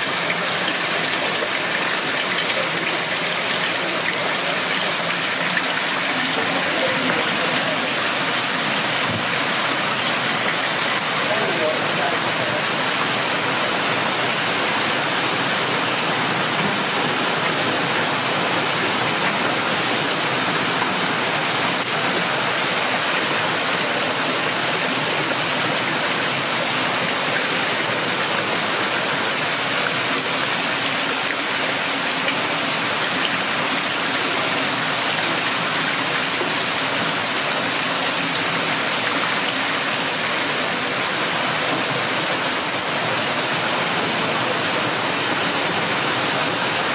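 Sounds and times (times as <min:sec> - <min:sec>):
water rushing from hose: 0:00.0 - 0:46.9.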